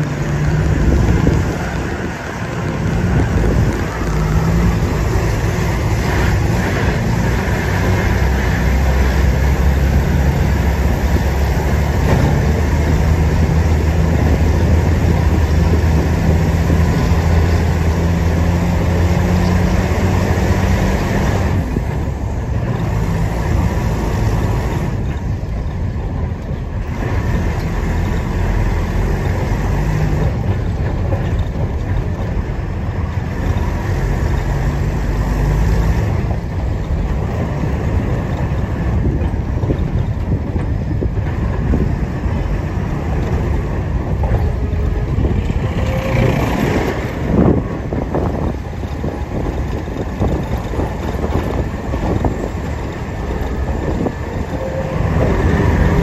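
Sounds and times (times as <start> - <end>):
bus engine running: 0.0 - 56.0
tyres on gravel road: 0.0 - 56.0.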